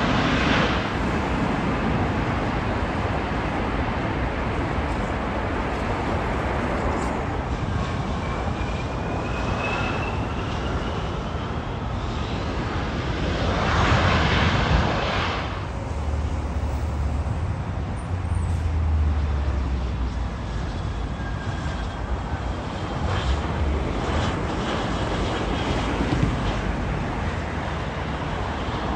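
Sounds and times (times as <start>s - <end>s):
jet engine noise: 0.0s - 28.9s.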